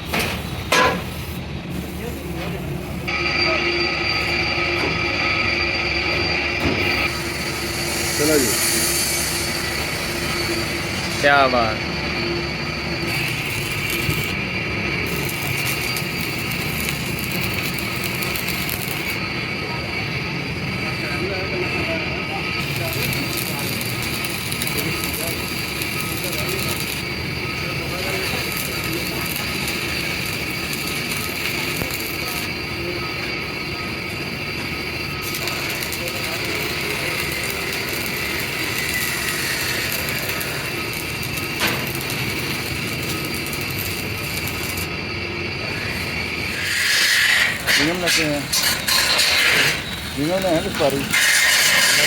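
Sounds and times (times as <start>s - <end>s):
workshop machinery whining: 0.0s - 52.0s.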